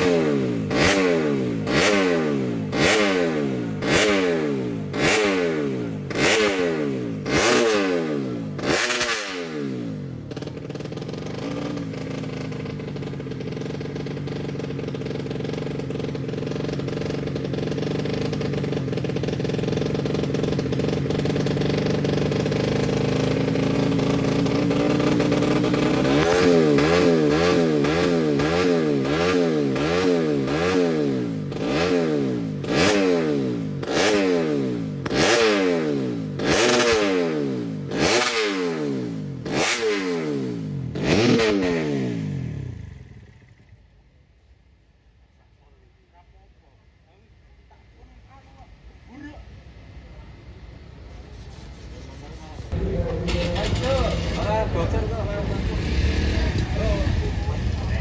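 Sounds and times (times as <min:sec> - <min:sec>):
motocross bike engine revving: 0:00.0 - 0:43.8, 0:51.6 - 0:58.0.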